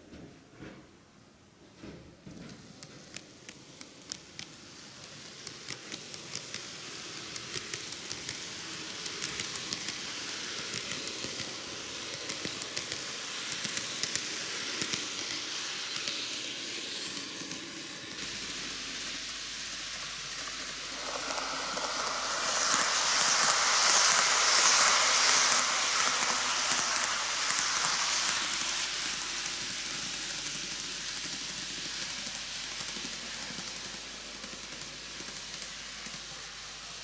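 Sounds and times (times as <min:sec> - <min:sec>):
wheels clicking on rail joints: 0:01.8 - 0:37.0
model train motor whirring: 0:02.5 - 0:37.0.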